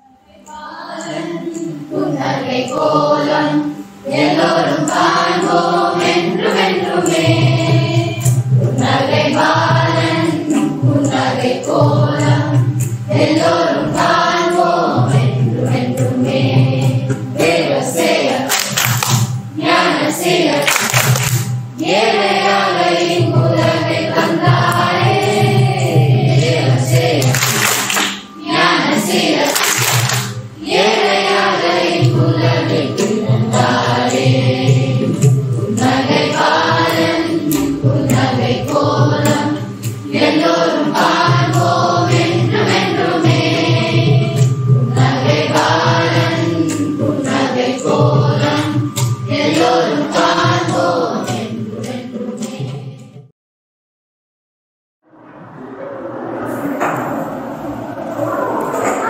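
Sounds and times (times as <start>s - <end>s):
choir singing: 0.0s - 53.3s, 55.1s - 59.0s.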